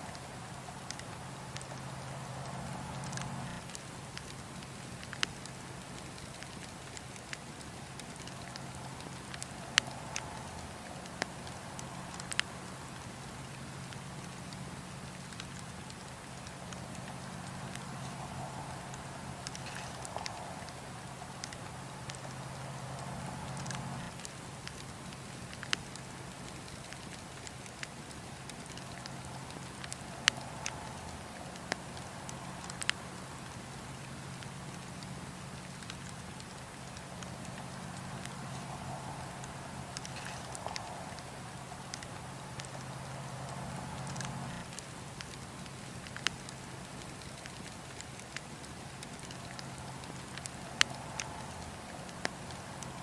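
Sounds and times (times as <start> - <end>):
fire crackling and hissing: 0.0 - 53.0
fire pops and snaps: 0.0 - 53.0.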